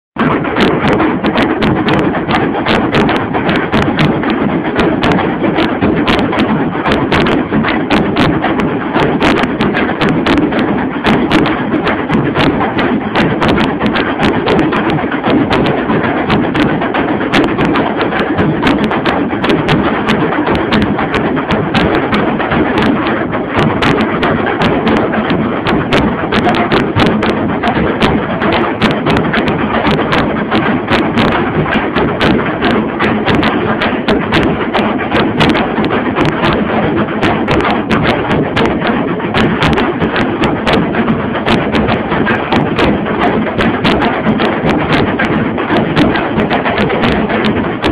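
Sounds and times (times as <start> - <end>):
fast loud drumming: 0.0 - 47.9.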